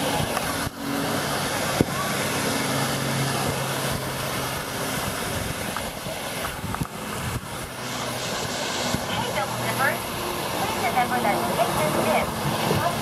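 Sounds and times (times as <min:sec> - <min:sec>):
water rushing down slide: 0:00.0 - 0:13.0
wind on microphone: 0:00.0 - 0:13.0.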